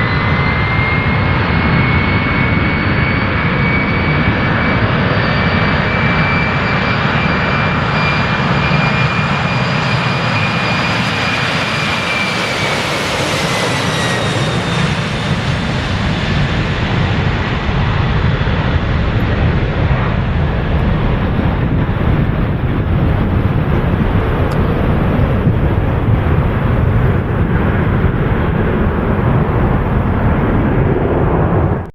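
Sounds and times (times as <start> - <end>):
jet engines roaring with high whine: 0.0 - 31.9.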